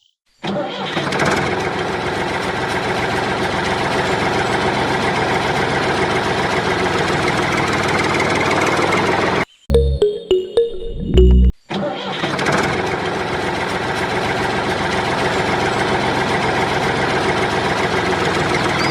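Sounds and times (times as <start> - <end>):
small engine running with rattle: 0.8 - 9.4, 12.3 - 18.9.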